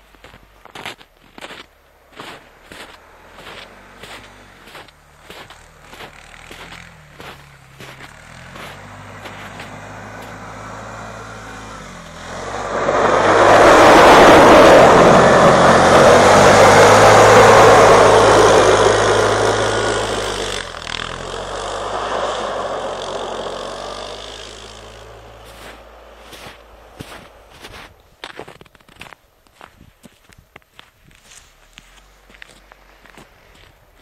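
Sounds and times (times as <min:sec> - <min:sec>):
quad bike engine: 0:00.0 - 0:28.0
tyres rushing through snow: 0:00.0 - 0:34.0.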